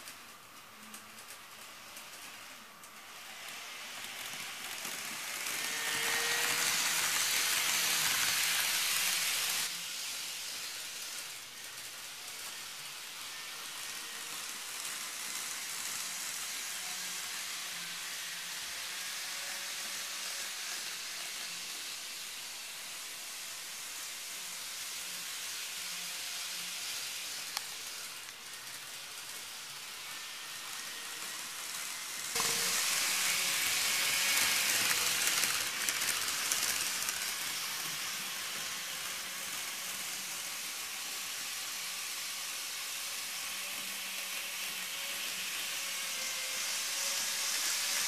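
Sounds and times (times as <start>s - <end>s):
model train rattling on track: 0.0s - 48.0s.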